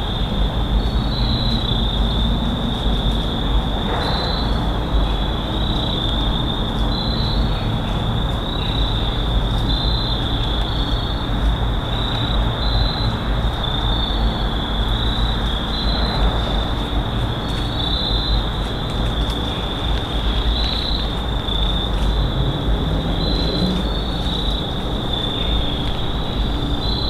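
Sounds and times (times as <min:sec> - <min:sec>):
insects trilling: 0:00.0 - 0:27.0
low rumbling noise: 0:00.0 - 0:27.0.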